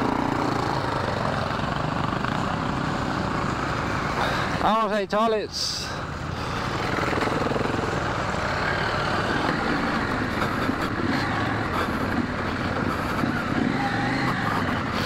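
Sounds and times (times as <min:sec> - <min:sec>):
motorcycle engine running: 0:00.0 - 0:03.9, 0:06.4 - 0:15.0.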